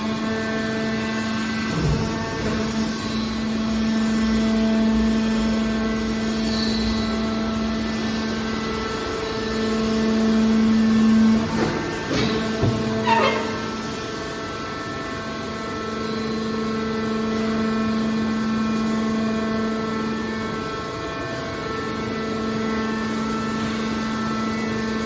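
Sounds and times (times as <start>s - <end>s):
hydraulic power unit humming: 0.0s - 25.0s.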